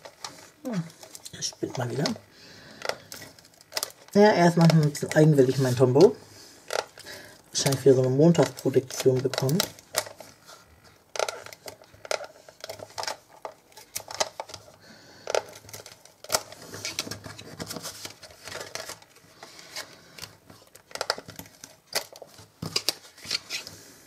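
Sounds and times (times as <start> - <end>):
paper rustling: 2.8 - 6.9, 7.6 - 23.8.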